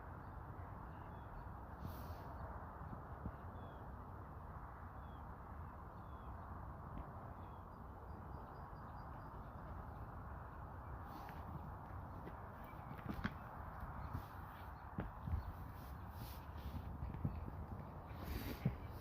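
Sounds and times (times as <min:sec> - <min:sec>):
low rushing background noise: 0:00.0 - 0:19.0.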